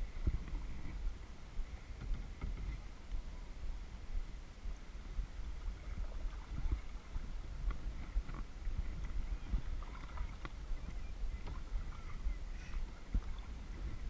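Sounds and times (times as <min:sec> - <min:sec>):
low microphone rumble: 0:00.0 - 0:14.0
paddle splashing water: 0:00.0 - 0:14.0
water lapping against hull: 0:00.0 - 0:14.0.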